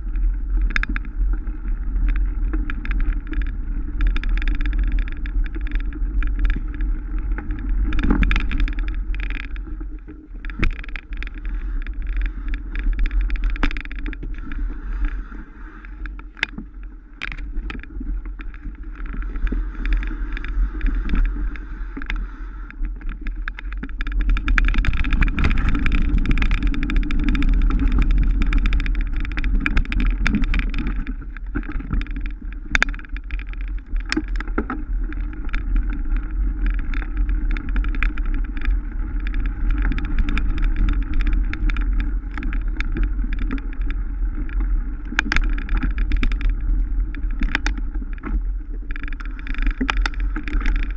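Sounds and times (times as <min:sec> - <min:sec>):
bike rattling over bumps: 0:00.0 - 0:50.9
wind and rolling tyres rumble: 0:00.0 - 0:50.9.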